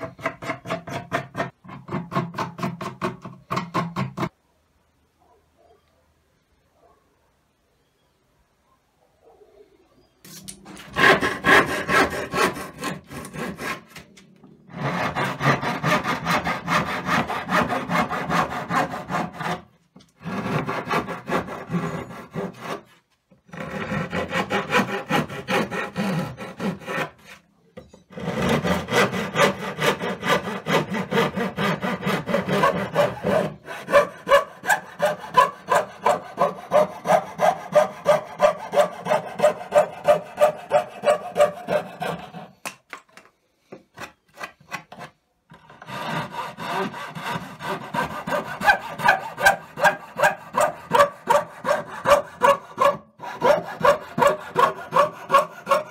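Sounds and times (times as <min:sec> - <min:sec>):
backsaw cutting wood: 0:00.0 - 0:04.3, 0:10.4 - 0:27.5, 0:28.1 - 0:42.6, 0:44.5 - 0:55.9.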